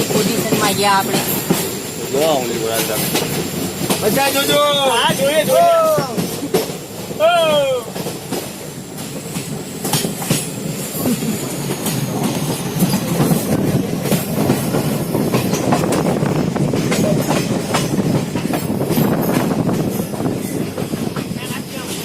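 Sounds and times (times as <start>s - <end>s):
train rumbling: 0.0s - 22.0s
wheels clacking over rail joints: 0.0s - 22.0s.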